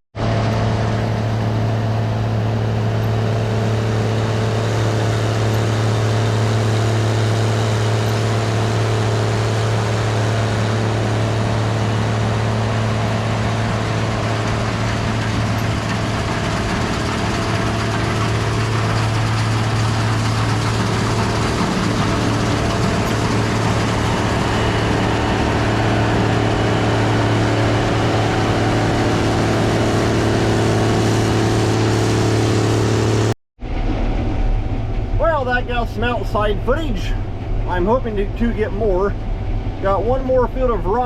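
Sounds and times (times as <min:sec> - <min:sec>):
combine engine hum: 0:00.2 - 0:41.0
threshing machinery noise: 0:00.2 - 0:41.0.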